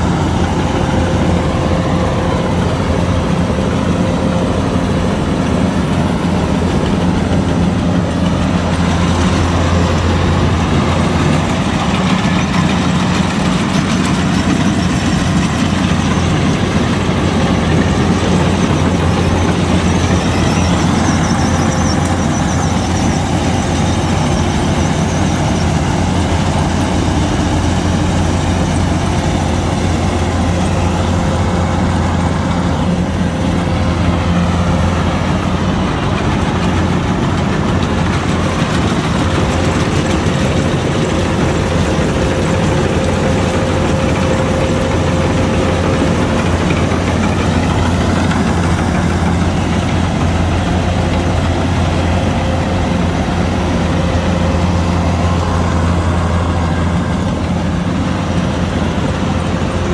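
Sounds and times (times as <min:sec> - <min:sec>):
combine harvester engine hum: 0:00.0 - 0:59.9
machinery whine: 0:00.0 - 0:59.9.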